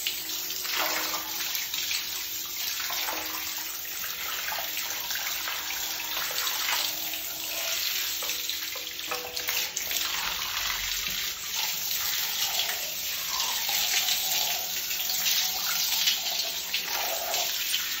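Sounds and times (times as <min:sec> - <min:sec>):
shower spraying on tiled floor: 0:00.0 - 0:18.0.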